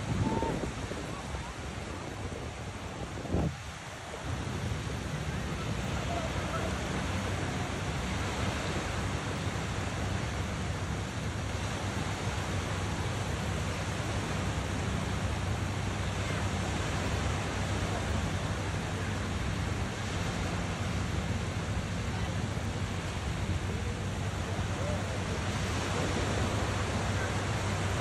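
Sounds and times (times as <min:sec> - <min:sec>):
small surf waves: 0:00.0 - 0:28.0
wind on microphone: 0:00.0 - 0:28.0.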